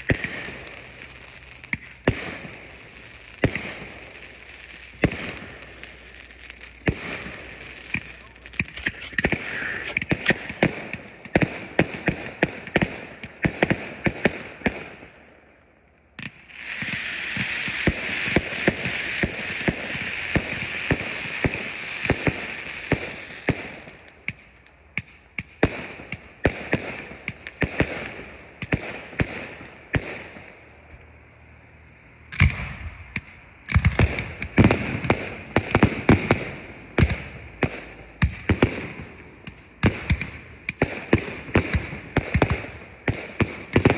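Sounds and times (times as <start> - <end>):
firework pops: 0.0 - 2.6, 4.9 - 14.8, 16.2 - 29.4, 32.4 - 43.9
firework hissing and crackling: 0.0 - 14.9, 16.2 - 30.2, 33.7 - 43.9
fireworks bangs and crackles: 0.0 - 15.3, 16.1 - 30.9, 32.4 - 43.9.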